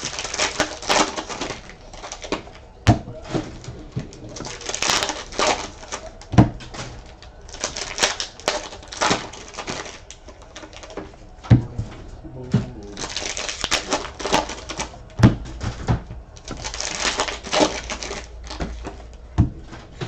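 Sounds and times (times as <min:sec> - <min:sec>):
card wrappers crinkling and tearing: 0:00.0 - 0:20.0.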